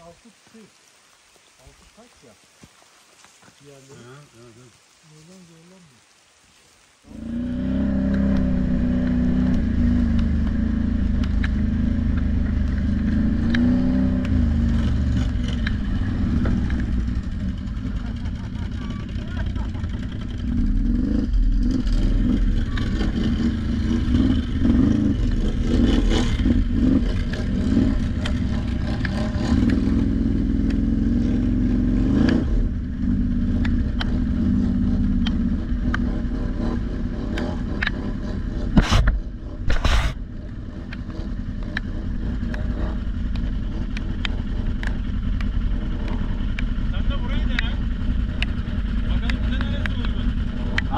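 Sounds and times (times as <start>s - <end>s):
atv engine revving: 7.1s - 50.9s.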